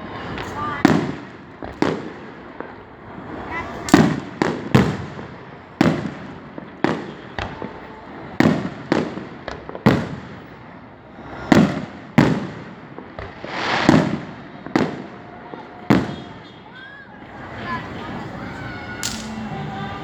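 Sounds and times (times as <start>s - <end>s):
fireworks shells booming: 0.0s - 20.0s.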